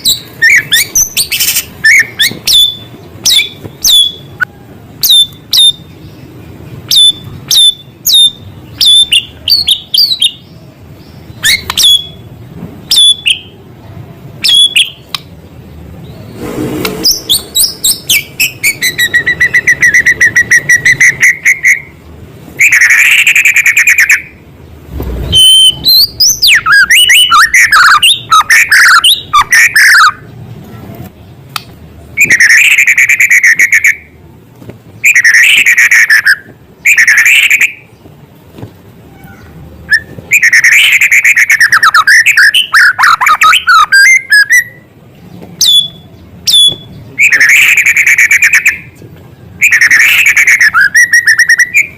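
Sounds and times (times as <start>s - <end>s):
bird singing varied phrases: 0.0s - 13.7s, 14.3s - 16.4s, 17.0s - 30.5s, 32.1s - 34.2s, 35.0s - 38.0s, 39.0s - 51.9s.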